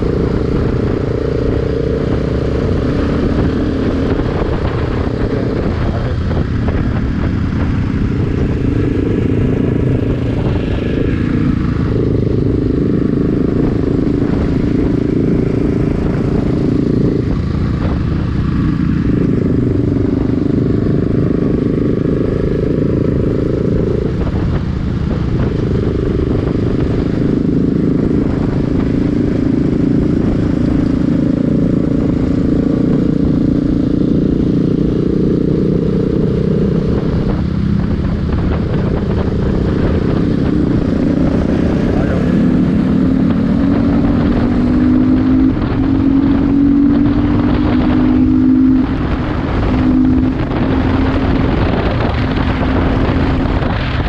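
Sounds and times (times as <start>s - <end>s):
constant low rumble: 0.0s - 54.0s
motorcycle engine cruising: 0.0s - 54.0s.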